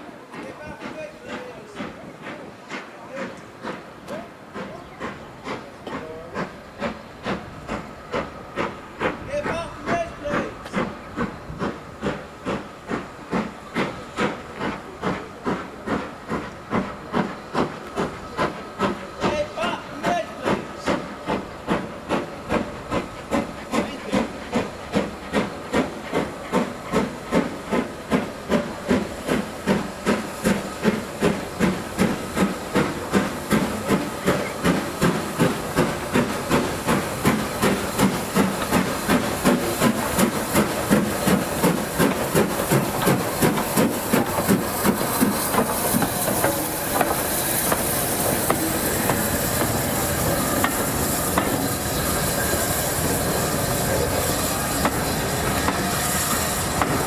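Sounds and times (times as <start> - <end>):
steam locomotive chimney exhaust beats: 0.0 - 57.0
train running past: 0.0 - 57.0.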